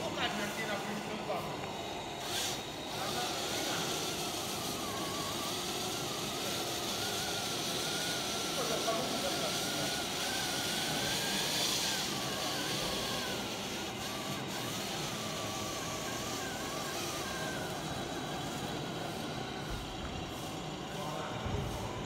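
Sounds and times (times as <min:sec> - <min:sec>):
steady background noise: 0:00.0 - 0:22.0
wavering thin motor whine: 0:00.0 - 0:22.0.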